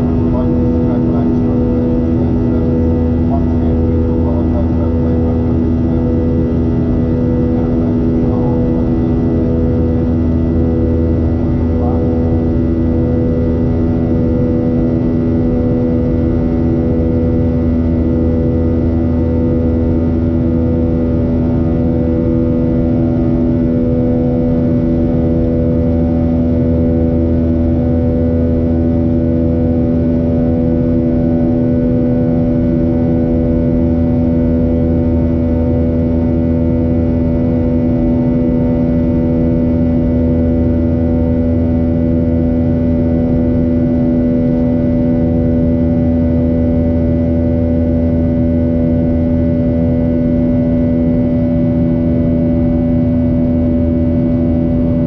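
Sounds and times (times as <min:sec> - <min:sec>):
jet engine drone in cabin: 0:00.0 - 0:55.0.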